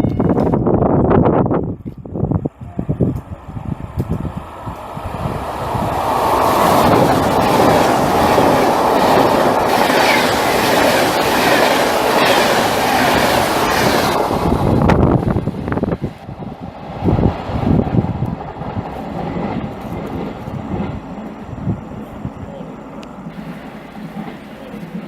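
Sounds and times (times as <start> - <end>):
train passing on rails: 0.0 - 25.0.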